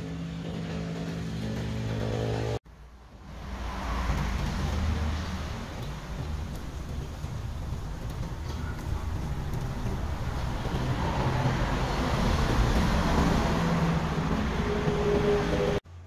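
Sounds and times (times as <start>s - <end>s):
fire roaring in drum oven: 0.0s - 15.8s.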